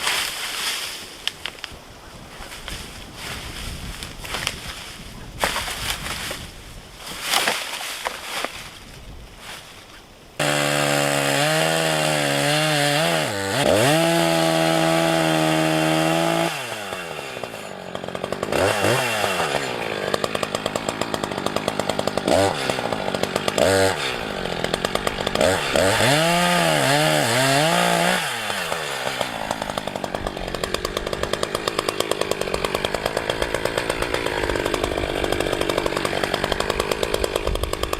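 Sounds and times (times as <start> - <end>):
chainsaw revving and cutting wood: 2.4 - 8.6, 10.4 - 37.9.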